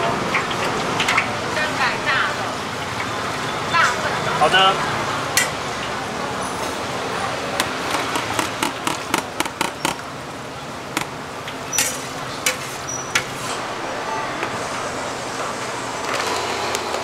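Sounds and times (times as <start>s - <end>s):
hot oil bubbling: 0.0s - 13.7s.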